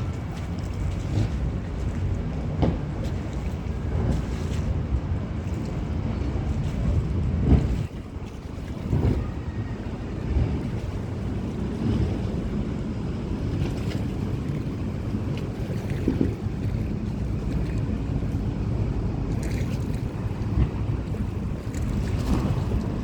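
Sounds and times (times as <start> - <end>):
passing boats: 0.0 - 23.0
river water rumble: 0.0 - 23.0
wind buffeting microphone: 0.0 - 23.0.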